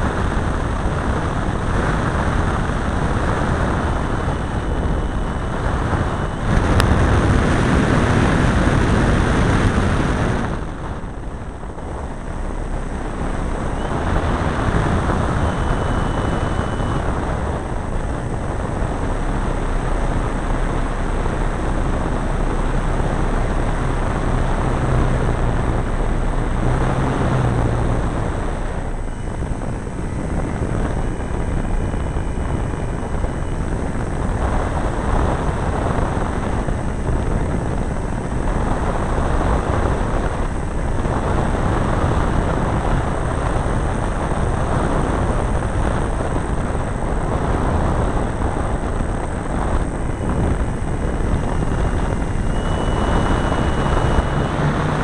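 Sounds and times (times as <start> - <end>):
model airplane engine running: 0.0 - 55.0
wind rush over microphone: 0.0 - 55.0.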